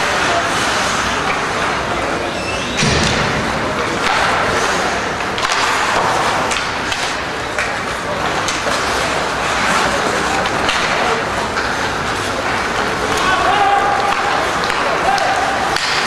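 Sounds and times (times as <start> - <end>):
skates scraping ice: 0.0 - 2.6, 3.7 - 16.0
hockey sticks and puck knocking: 2.8 - 16.0.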